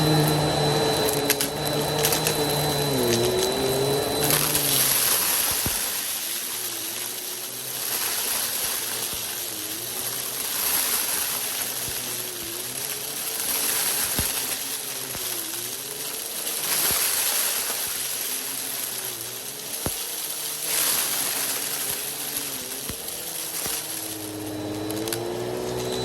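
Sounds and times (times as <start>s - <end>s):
dry grains rattling through vacuum: 0.0s - 26.0s
vacuum cleaner motor hum: 0.0s - 26.0s.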